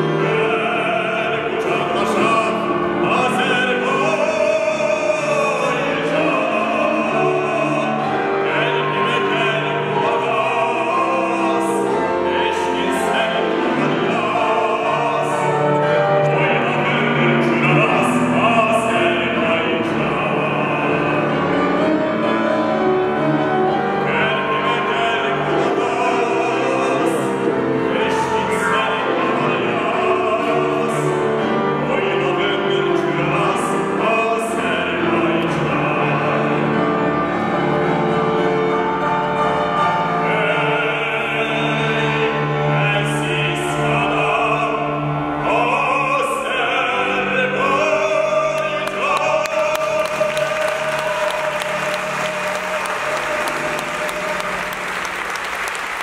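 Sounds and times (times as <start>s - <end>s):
grand piano: 0.0s - 56.0s
man singing opera: 0.0s - 56.0s.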